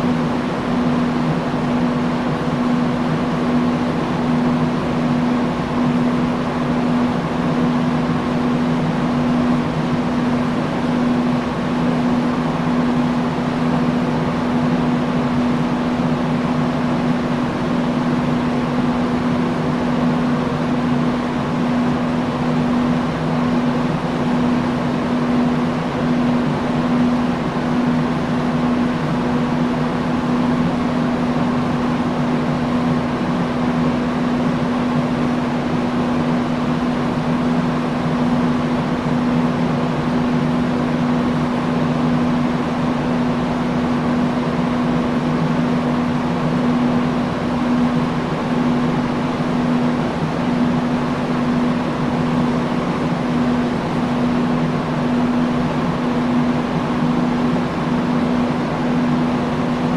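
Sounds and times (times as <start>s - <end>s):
industrial fan running: 0.0s - 59.9s.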